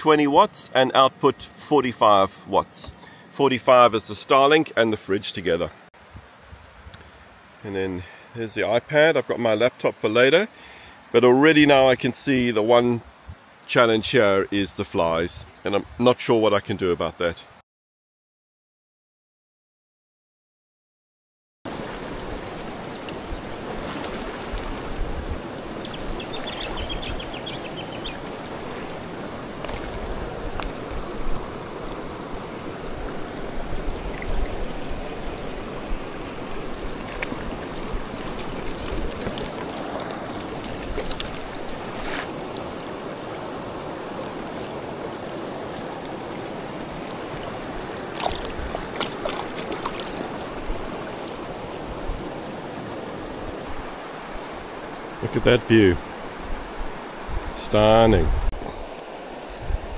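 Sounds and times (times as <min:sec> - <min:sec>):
river water running: 0:00.0 - 0:17.6, 0:21.7 - 0:59.9.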